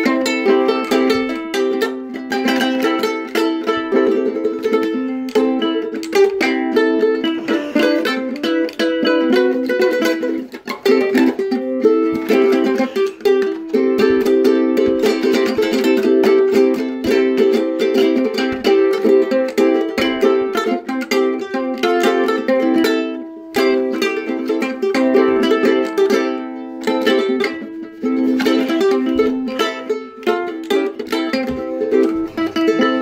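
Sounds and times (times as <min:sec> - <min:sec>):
ukulele playing: 0:00.0 - 0:33.0.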